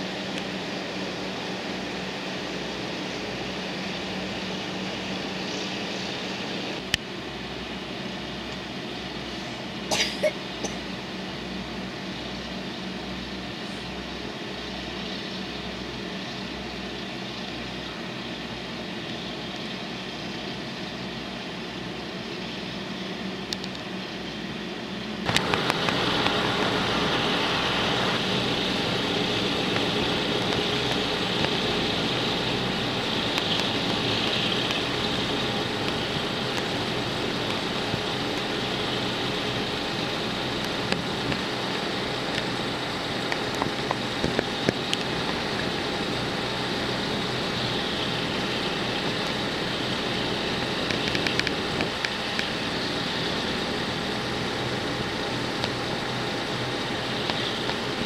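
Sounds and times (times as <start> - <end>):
car fan: 0.0 - 58.0
idling car engine hum: 0.0 - 58.0
low regular throb: 0.0 - 58.0.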